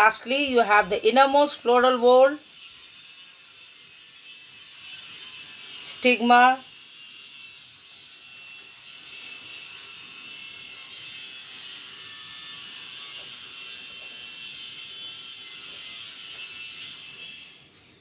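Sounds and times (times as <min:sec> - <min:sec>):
high-pitched rattling buzz: 0:00.0 - 0:18.0.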